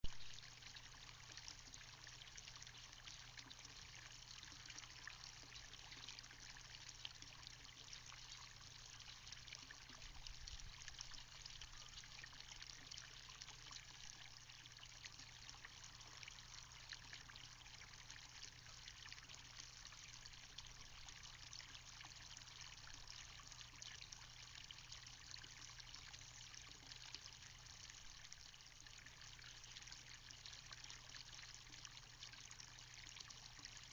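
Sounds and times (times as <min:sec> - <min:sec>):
faint steady rain: 0:00.0 - 0:33.9.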